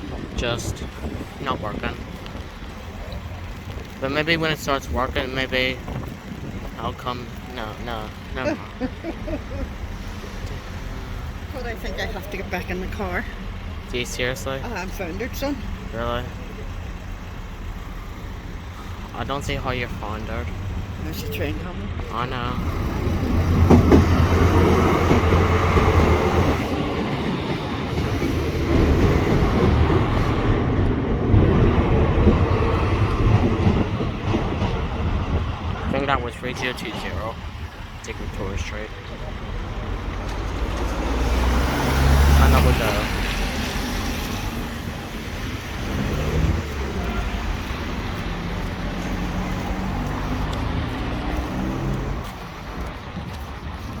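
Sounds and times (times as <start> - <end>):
train engine rumble: 0.0 - 54.0
train wheels on rails: 0.0 - 54.0.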